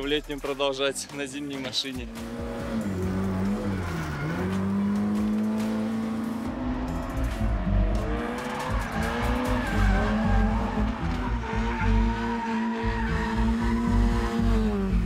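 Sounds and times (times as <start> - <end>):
music: 0.0 - 15.0
car engines at high revs: 2.1 - 15.0
tyres squealing and skidding: 2.2 - 5.8, 6.4 - 14.9.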